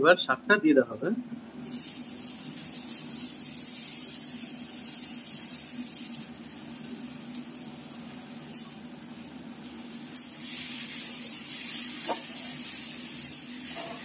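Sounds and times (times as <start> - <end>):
hot oil frying in a wok: 1.2 - 14.0.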